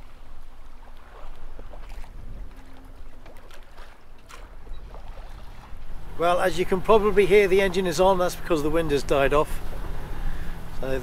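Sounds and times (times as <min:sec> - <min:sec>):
low steady rumble: 0:00.0 - 0:11.0
water rushing along a hull: 0:00.0 - 0:11.0.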